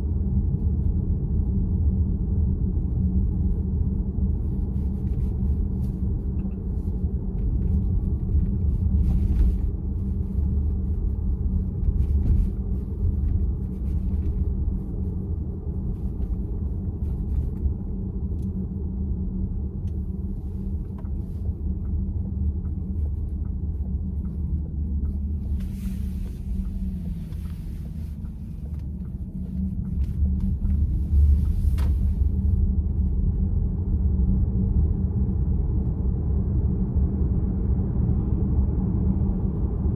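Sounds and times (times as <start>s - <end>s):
car road and tyre rumble: 0.0s - 39.9s.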